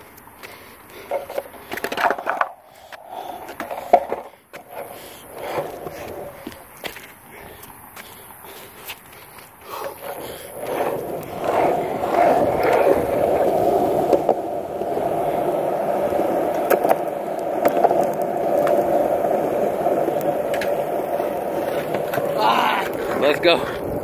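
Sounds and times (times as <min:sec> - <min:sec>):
skateboard wheels rolling on pavement: 0:00.0 - 0:24.0
wheels clicking over cracks: 0:00.0 - 0:24.0.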